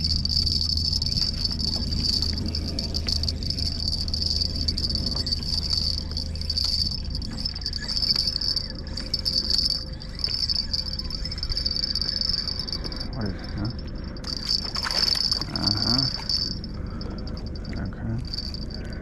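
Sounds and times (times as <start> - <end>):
insects trilling: 0.0 - 19.0
low rumble: 0.0 - 19.0.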